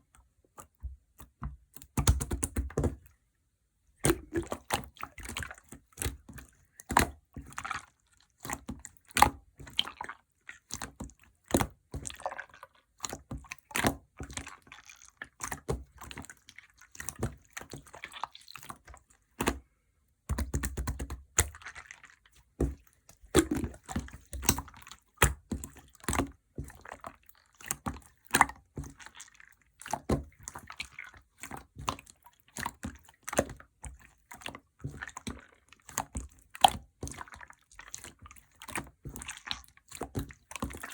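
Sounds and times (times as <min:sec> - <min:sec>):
slime squishing with wet clicks: 0:00.0 - 0:03.2, 0:04.0 - 0:40.9.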